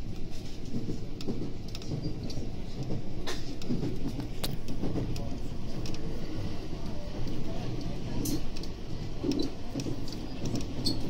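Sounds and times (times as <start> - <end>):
wheels rumbling on rails: 0.0 - 11.0.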